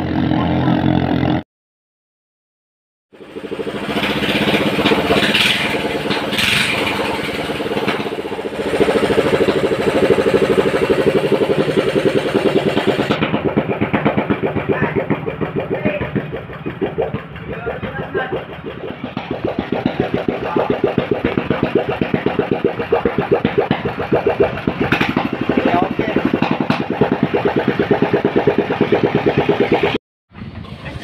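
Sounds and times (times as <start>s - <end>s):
boat engine throbbing: 0.0s - 1.4s, 3.1s - 31.0s.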